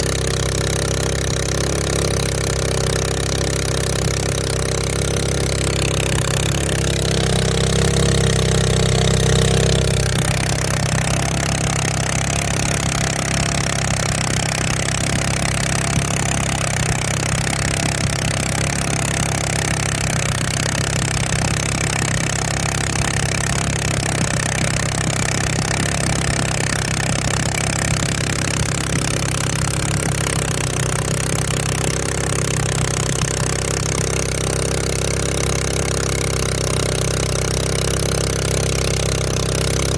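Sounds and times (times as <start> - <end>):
boat engine running steadily: 0.0 - 39.9.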